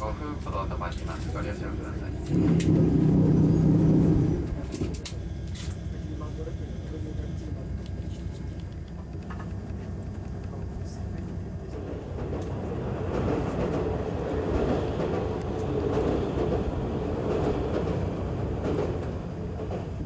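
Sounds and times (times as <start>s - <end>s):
train wheels rumbling and clattering: 0.0s - 20.0s.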